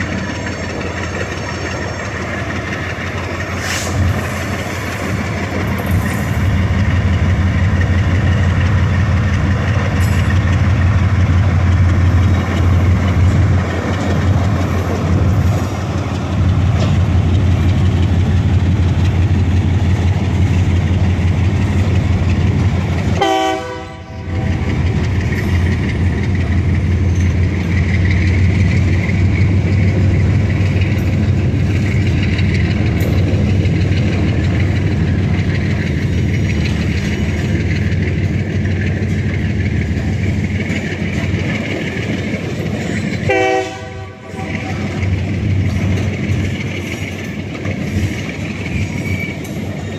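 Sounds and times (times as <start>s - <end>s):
diesel locomotive engine running: 0.0s - 49.9s
rail cars rolling on rails: 0.0s - 49.9s.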